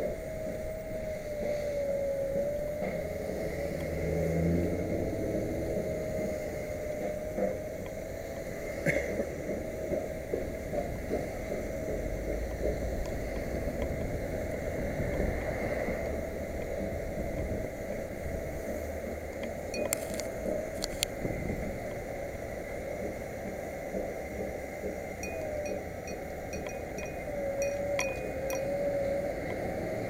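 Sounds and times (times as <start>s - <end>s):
wheelchair rolling whine: 0.0s - 30.0s.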